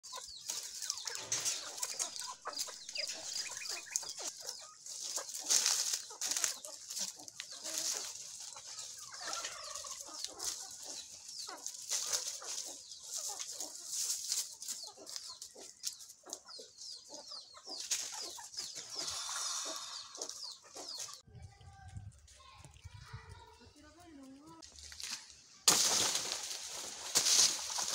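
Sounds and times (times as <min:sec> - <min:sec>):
chickens clucking and calling: 0:00.0 - 0:21.2, 0:26.4 - 0:27.9.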